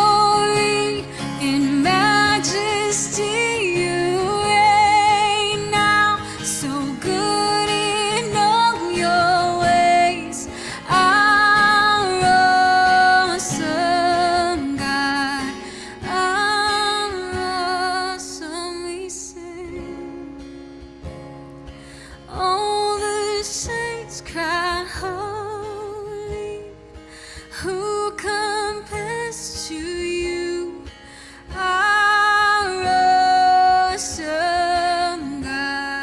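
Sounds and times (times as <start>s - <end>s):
person singing with vibrato: 0.0s - 20.5s, 21.9s - 36.0s
guitar: 0.0s - 36.0s.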